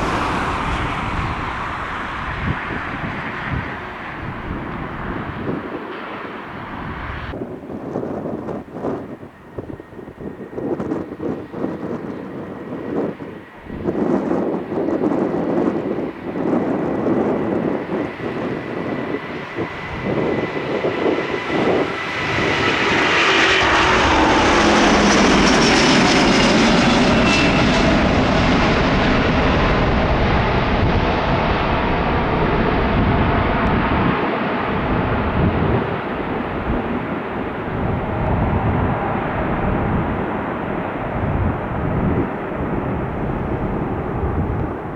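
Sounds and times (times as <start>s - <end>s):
jet engines passing: 0.0s - 44.9s.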